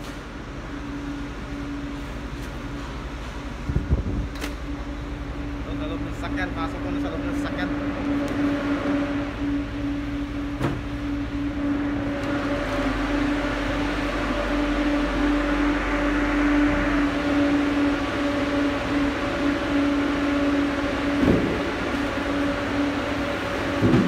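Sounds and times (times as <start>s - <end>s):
mechanical hum: 0.0s - 24.0s.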